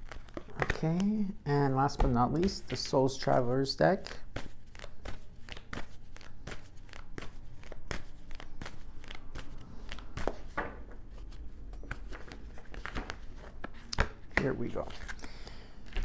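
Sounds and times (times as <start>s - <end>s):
cards shuffling clicks: 0.0s - 1.2s, 4.0s - 16.0s.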